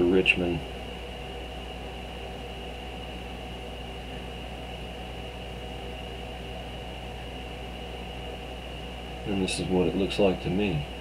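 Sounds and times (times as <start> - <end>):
faint high whine: 0.0 - 11.0
low hum: 0.0 - 11.0.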